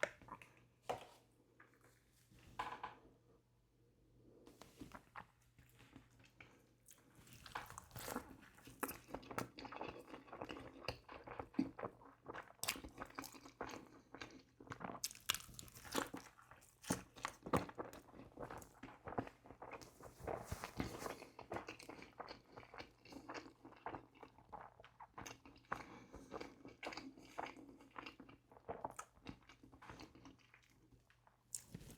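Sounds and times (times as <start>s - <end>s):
chewing and crunching food: 4.8s - 31.9s.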